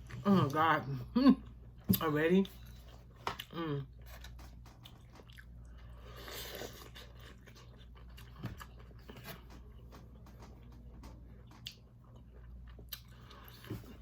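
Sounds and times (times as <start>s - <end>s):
chewing and biting food: 2.6s - 14.0s.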